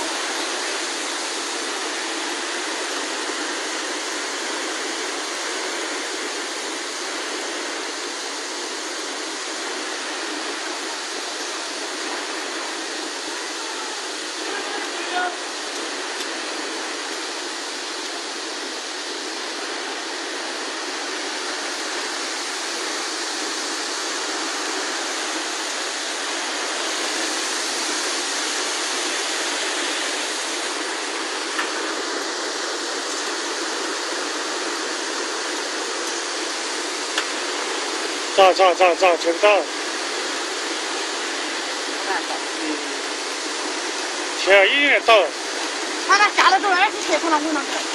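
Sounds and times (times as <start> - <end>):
floodwater rushing: 0.0 - 47.9.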